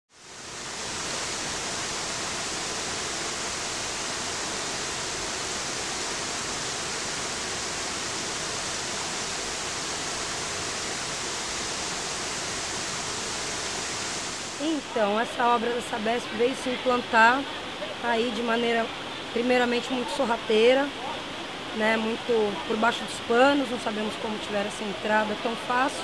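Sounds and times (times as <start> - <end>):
river water rushing over rocks: 0.1 - 26.0.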